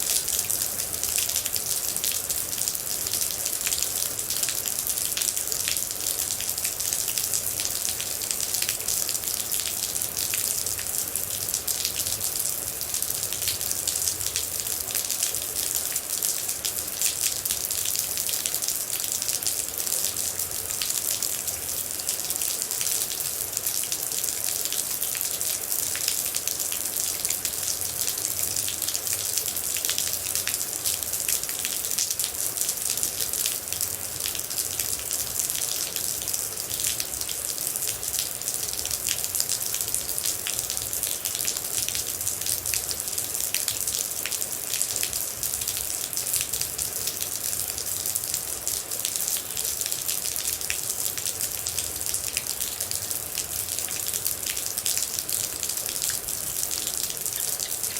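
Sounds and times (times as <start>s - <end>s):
steady rain pattering: 0.0s - 57.9s.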